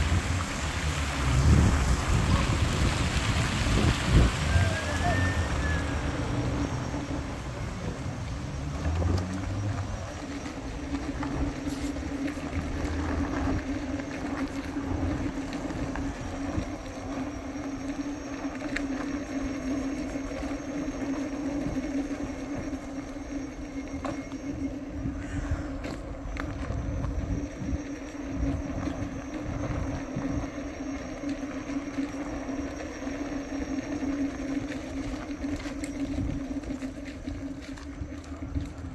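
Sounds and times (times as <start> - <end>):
electric motor hum: 0.0 - 38.9
wheels rolling on asphalt: 0.0 - 38.9.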